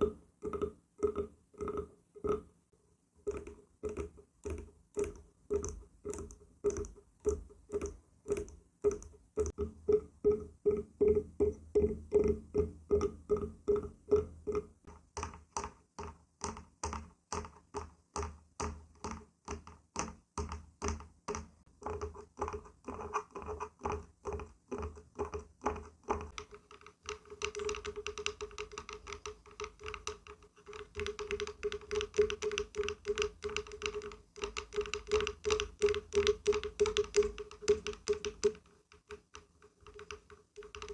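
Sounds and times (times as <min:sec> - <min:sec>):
fingers tapping on wood: 0:00.0 - 0:02.5, 0:03.3 - 0:40.9.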